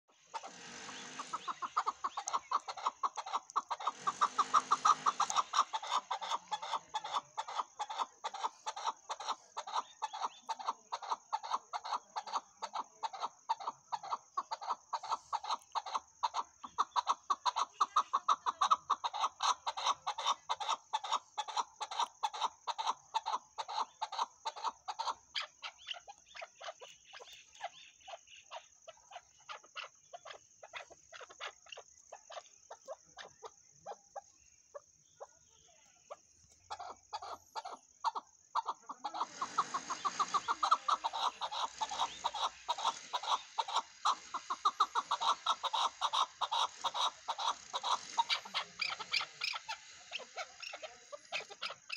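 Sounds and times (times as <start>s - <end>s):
partridge calling: 0.0s - 51.9s.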